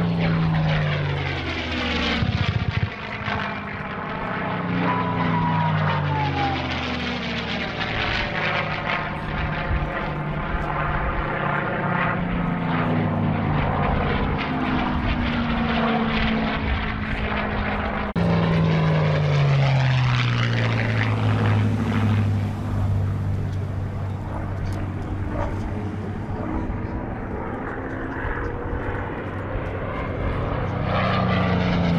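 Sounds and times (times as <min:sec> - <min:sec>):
propeller plane engine flying past: 0:00.0 - 0:31.9.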